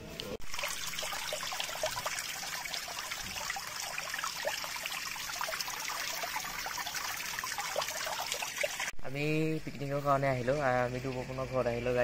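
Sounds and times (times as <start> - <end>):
fountain water trickling over pebbles: 0.4 - 12.0.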